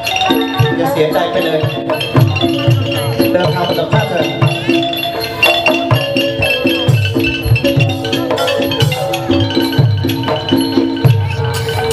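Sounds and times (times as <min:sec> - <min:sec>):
drums: 0:00.0 - 0:11.9
wooden xylophone melody: 0:00.0 - 0:11.9.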